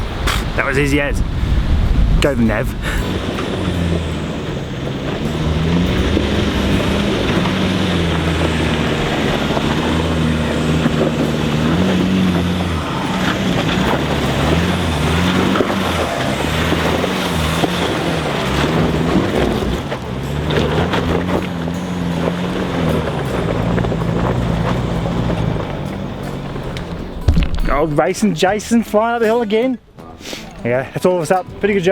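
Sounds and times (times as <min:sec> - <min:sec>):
vehicle engine revving on climb: 0:00.0 - 0:28.1.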